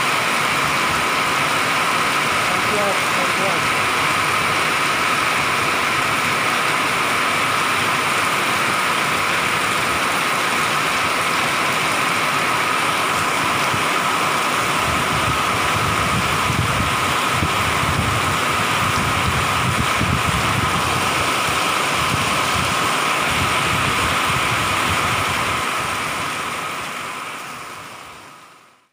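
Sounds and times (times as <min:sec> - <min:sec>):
heavy rain on street: 0:00.0 - 0:28.9.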